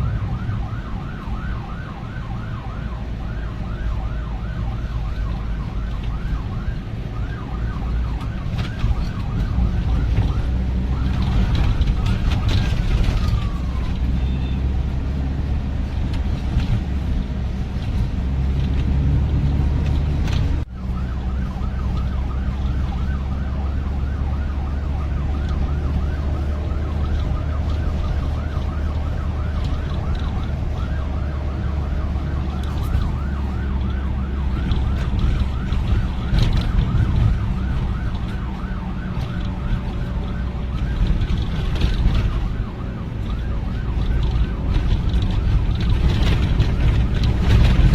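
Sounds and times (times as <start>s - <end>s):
police siren warbling: 0.0s - 14.7s, 20.7s - 47.9s
low rumble of vehicle engines: 0.0s - 47.9s.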